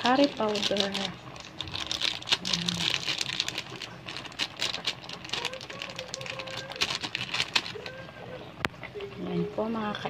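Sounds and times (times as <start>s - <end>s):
curry boiling in a pot: 0.0s - 10.0s.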